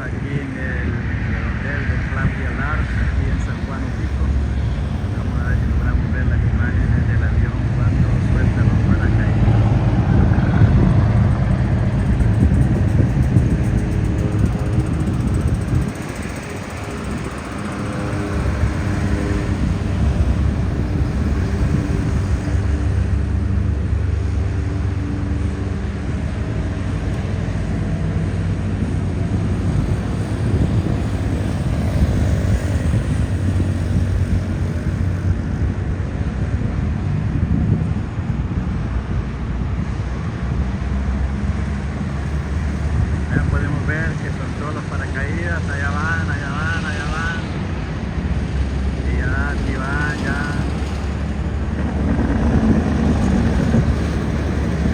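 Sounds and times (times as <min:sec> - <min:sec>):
propeller plane droning overhead: 0:00.0 - 0:54.9.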